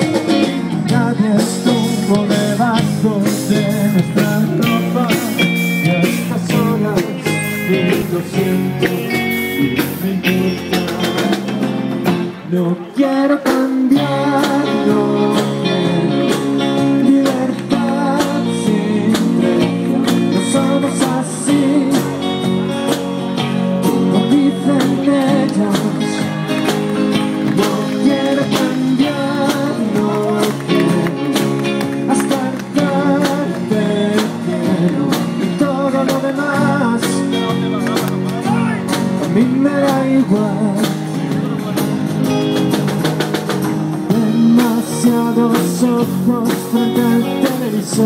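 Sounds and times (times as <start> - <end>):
song with guitar and beat: 0.0 - 48.0.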